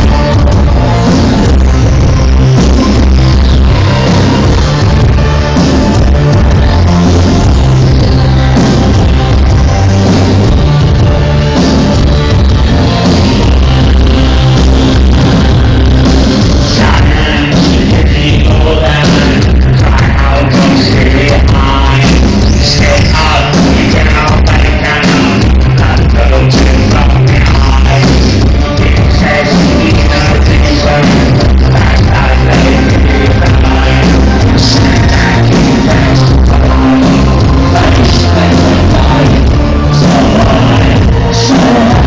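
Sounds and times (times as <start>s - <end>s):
heavy pulsing bass: 0.0s - 42.0s
live electro-industrial band: 0.0s - 42.0s.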